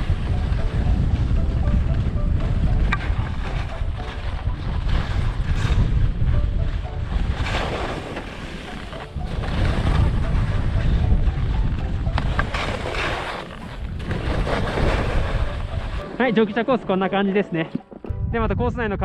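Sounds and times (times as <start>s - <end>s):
wind buffeting microphone: 0.0s - 16.2s, 18.1s - 19.0s
skis scraping through snow: 0.0s - 16.7s.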